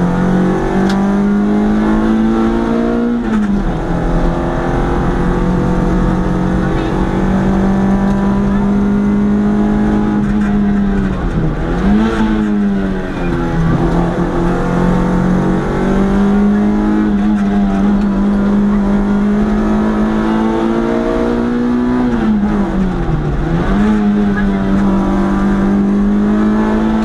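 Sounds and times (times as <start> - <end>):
rally car engine at high revs: 0.0 - 27.0.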